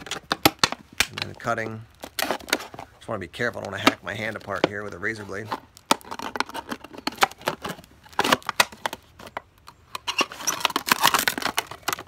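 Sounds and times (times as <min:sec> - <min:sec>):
plastic crackling: 0:00.0 - 0:12.0.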